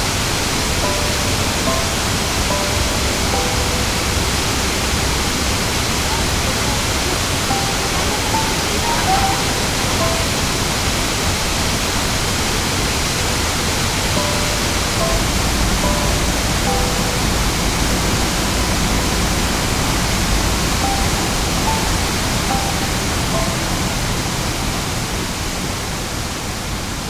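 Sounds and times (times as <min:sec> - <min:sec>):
stream flowing over rocks: 0:00.0 - 0:27.0
soft background music: 0:00.1 - 0:25.6.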